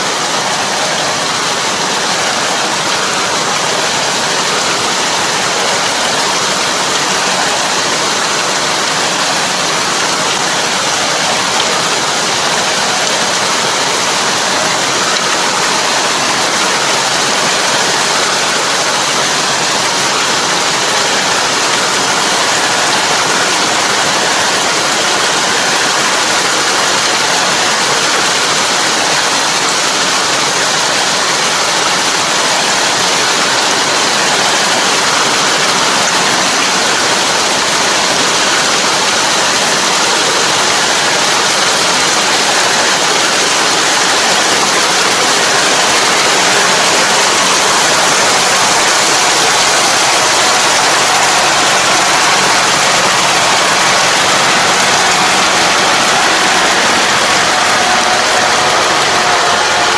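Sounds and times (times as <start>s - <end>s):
harrow churning muddy water: 0.0s - 59.9s.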